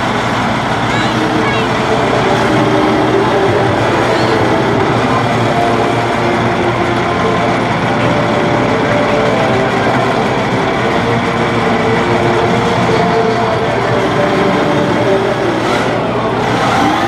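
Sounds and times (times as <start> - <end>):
faint steady whine: 0.0 - 17.0
truck diesel engine running: 0.0 - 17.0.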